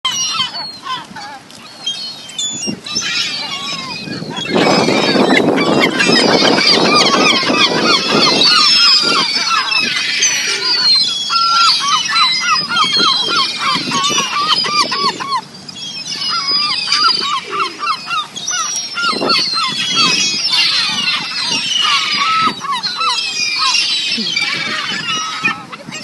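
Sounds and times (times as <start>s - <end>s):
high bird cries: 0.1s - 26.0s.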